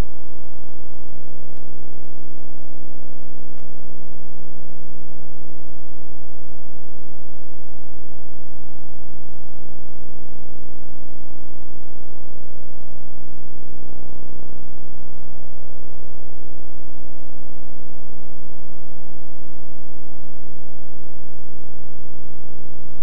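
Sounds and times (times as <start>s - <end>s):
electrical hum with hiss: 0.0s - 23.0s.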